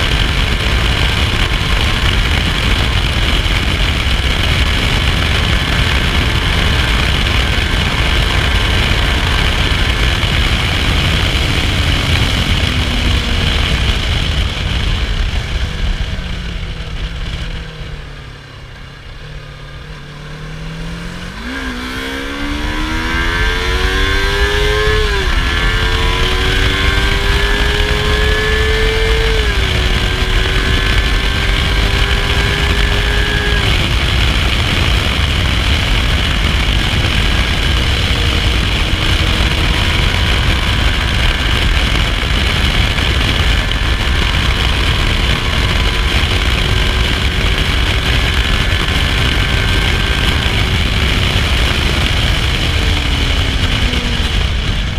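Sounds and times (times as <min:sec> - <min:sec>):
loud steady rushing noise: 0:00.0 - 0:54.9
motorcycle engine accelerating: 0:00.0 - 0:54.9.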